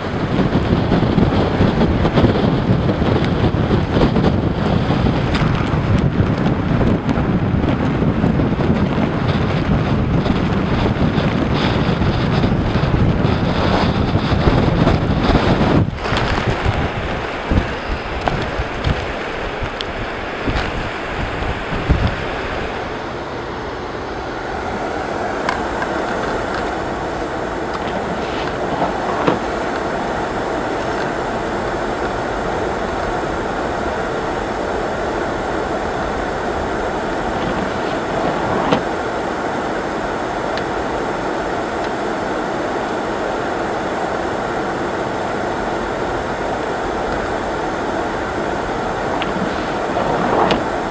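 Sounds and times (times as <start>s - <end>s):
car road and tyre noise: 0.0s - 50.9s
wind buffeting microphone: 0.0s - 50.9s.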